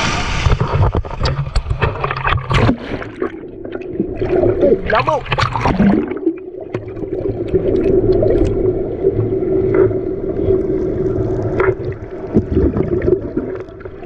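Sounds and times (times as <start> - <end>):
water splashing against hull: 0.0 - 14.0.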